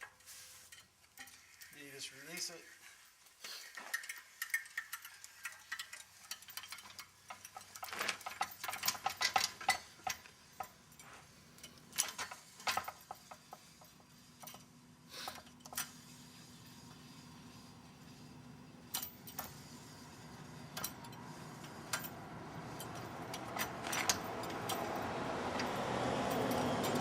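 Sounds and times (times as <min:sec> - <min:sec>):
metal clicking and clinking: 0:00.0 - 0:01.8, 0:03.6 - 0:16.1, 0:18.9 - 0:27.0.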